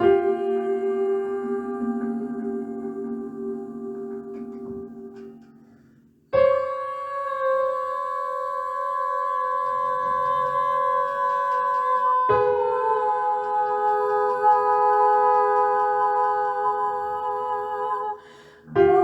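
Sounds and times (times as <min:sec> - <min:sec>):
held ambient chord: 0:00.0 - 0:19.0.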